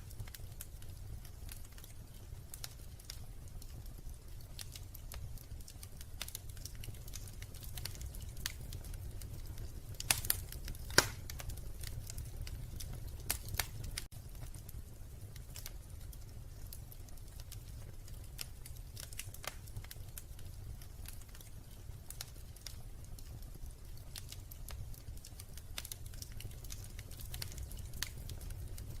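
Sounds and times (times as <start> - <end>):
fire popping: 0.0 - 29.0
low fire rumble: 0.0 - 29.0
wood fire crackling: 0.0 - 29.0.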